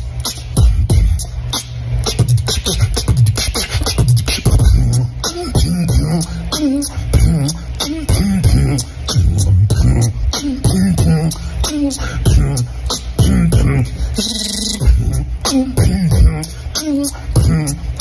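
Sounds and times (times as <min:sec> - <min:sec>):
beatbox kick and hi-hat sounds: 0:00.0 - 0:18.0
person humming: 0:02.2 - 0:18.0.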